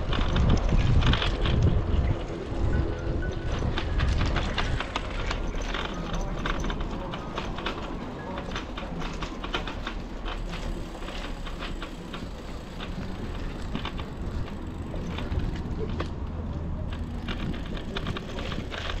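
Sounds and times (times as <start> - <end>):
bike frame rattling: 0.0 - 19.0
tyres rumbling on cobbles: 0.0 - 19.0.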